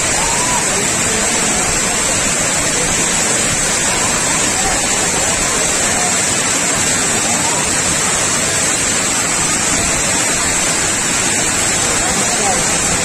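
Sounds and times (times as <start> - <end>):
water rushing over dam: 0.0 - 13.0.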